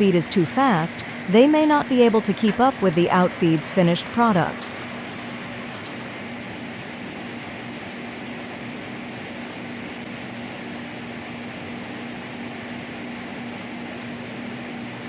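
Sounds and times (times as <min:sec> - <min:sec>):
sawmill machine hum: 0:00.0 - 0:15.0.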